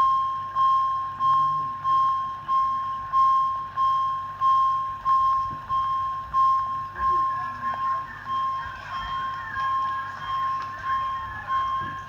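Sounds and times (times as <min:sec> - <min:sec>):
level-crossing alarm ringing: 0:00.0 - 0:12.0.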